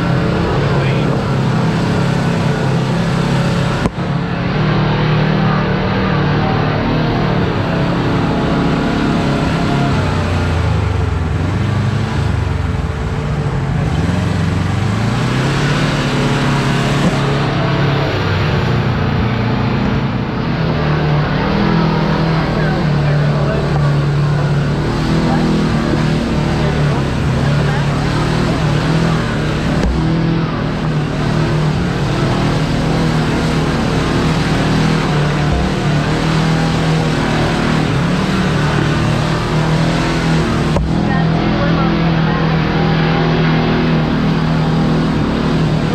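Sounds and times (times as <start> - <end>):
engine running under throttle: 0.0 - 45.9.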